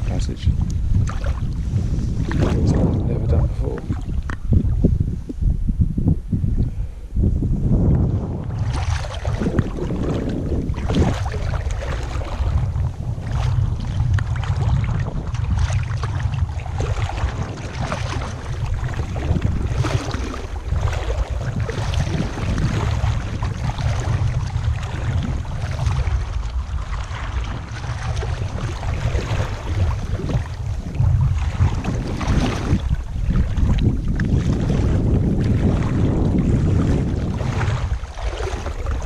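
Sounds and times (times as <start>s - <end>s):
low wind rumble on microphone: 0.0s - 39.0s
water sloshing around wading legs: 1.0s - 4.4s, 8.4s - 39.0s.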